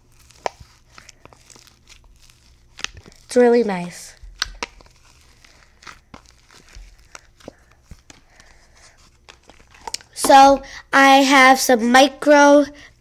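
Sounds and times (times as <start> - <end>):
slime squished by hand crackling: 0.0 - 10.6.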